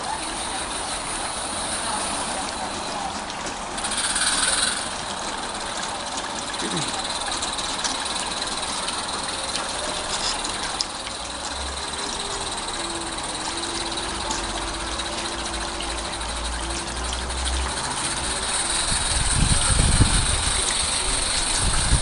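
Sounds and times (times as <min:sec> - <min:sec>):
model train rattling on track: 0:00.0 - 0:22.0.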